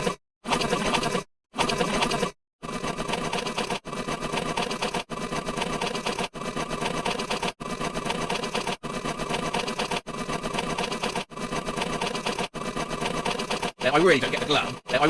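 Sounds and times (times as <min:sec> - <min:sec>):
dense mechanical rattling: 0:00.5 - 0:15.0.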